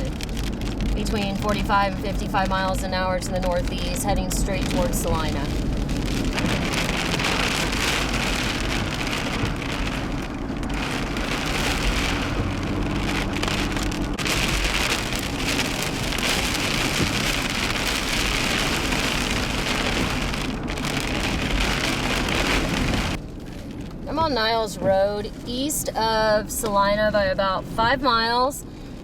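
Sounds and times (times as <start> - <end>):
car engine and road hum: 0.0 - 29.0
heavy rain pelting a car: 0.0 - 29.0.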